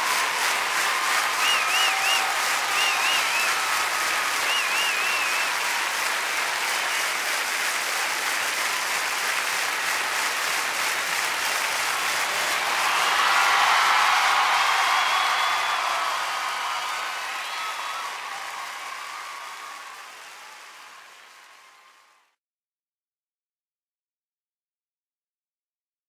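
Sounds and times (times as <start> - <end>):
crowd applauding: 0.0 - 22.4.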